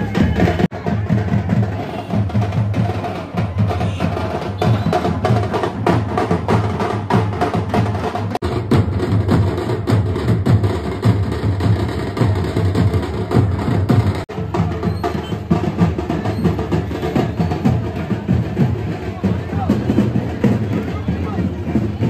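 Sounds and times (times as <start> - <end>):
drums playing fast rhythm: 0.0 - 22.0.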